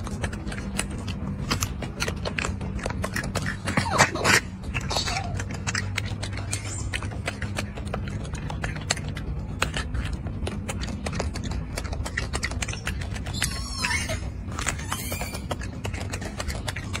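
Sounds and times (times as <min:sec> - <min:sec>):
monkey chewing with crunching clicks: 0:00.0 - 0:17.0.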